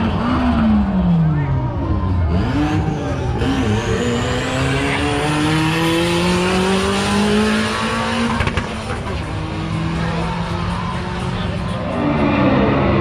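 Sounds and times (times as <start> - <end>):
performance car engine pulling hard: 0.0 - 13.0.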